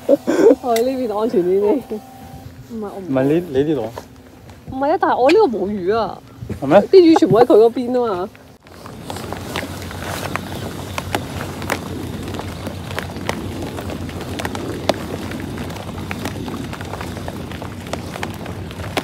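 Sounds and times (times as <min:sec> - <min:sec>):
light rain pattering: 0:02.6 - 0:19.0.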